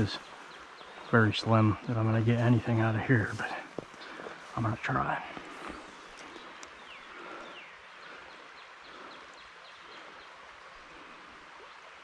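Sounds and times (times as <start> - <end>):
bird chirping: 0.0 - 10.9
creek rushing: 0.0 - 12.0.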